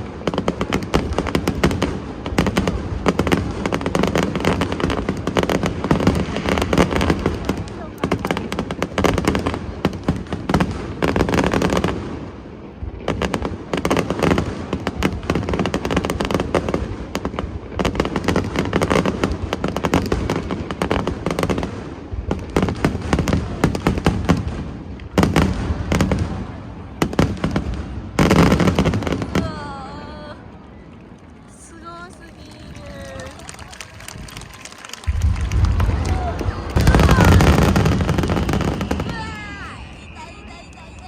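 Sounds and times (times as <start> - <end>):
fireworks booming and crackling: 0.0 - 41.0.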